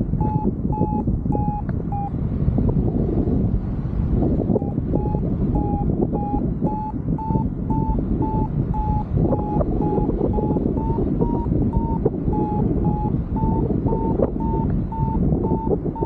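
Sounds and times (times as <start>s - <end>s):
variometer beeping: 0.0s - 2.8s, 4.2s - 16.0s
wind on microphone: 0.0s - 16.0s.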